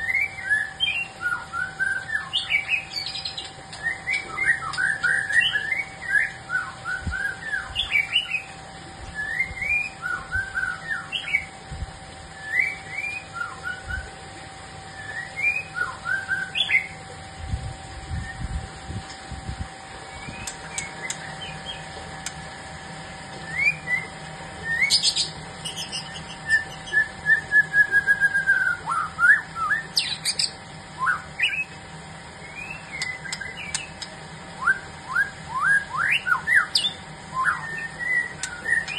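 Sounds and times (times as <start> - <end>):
songbirds chirping and whistling: 0.0 - 38.9.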